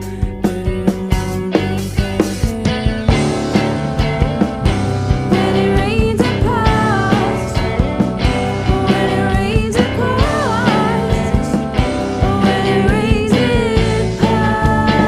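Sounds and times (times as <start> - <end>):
rock band music: 0.0 - 15.0
sliding lead melody: 0.0 - 15.0.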